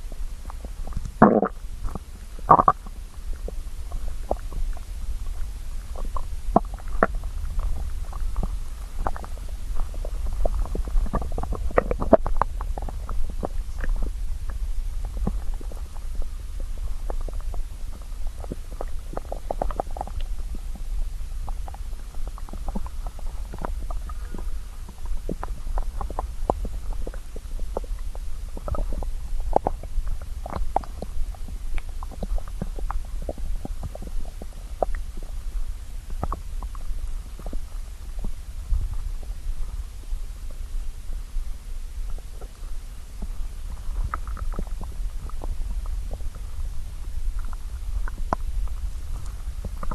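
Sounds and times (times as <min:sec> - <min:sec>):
stomach growling and gurgling: 0:00.0 - 0:49.9.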